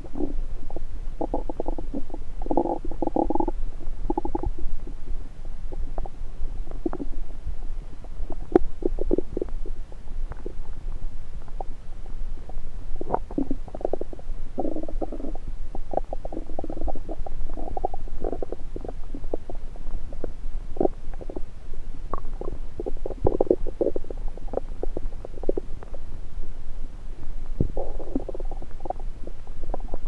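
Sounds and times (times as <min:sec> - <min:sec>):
stomach gurgling: 0:00.0 - 0:26.1, 0:27.4 - 0:30.0.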